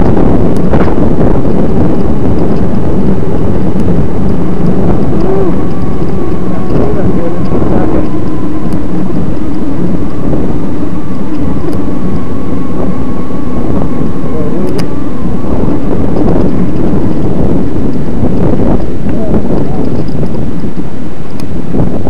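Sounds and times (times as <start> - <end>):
electric bicycle motor whine: 0.0 - 22.0
wind buffeting microphone: 0.0 - 22.0.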